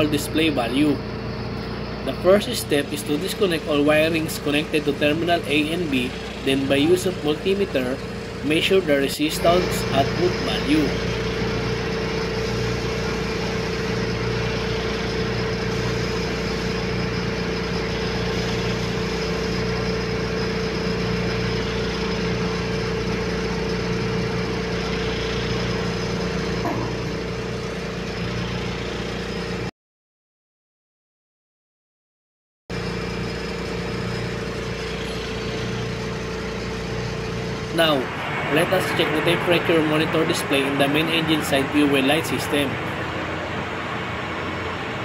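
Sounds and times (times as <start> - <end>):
engine-room machinery drone: 0.0 - 29.7, 32.7 - 45.0
faint high whine: 0.0 - 29.7, 32.7 - 45.0.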